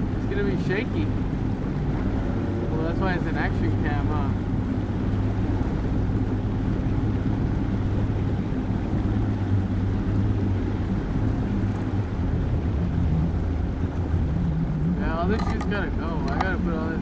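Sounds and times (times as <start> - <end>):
boat motor running: 0.0 - 17.0
rushing wind: 0.0 - 17.0
water noise: 0.0 - 17.0.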